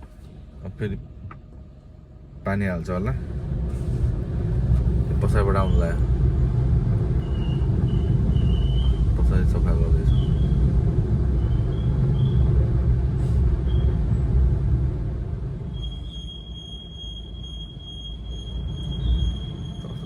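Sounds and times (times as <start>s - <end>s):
steady high whine: 0.0s - 20.0s.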